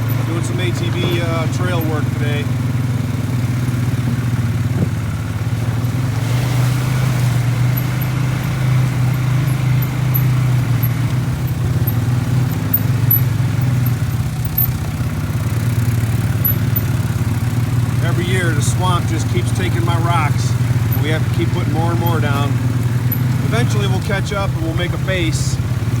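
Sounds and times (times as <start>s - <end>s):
vehicle engine running steadily: 0.0s - 26.0s.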